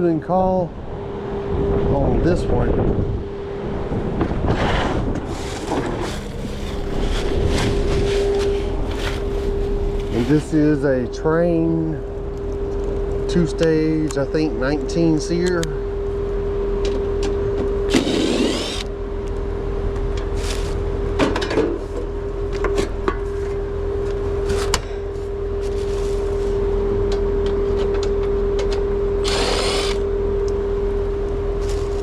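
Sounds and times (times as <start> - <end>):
air conditioner humming: 0.0 - 32.0.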